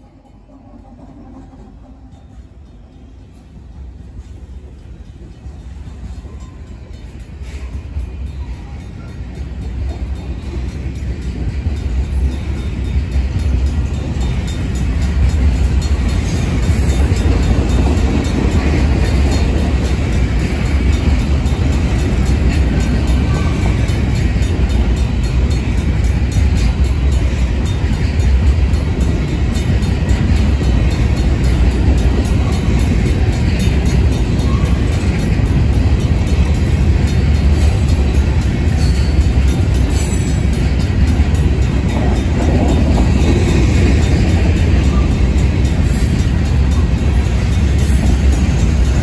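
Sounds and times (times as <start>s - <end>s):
crossing bell ringing: 0.0s - 49.0s
train cars rumbling on rails: 0.0s - 49.0s.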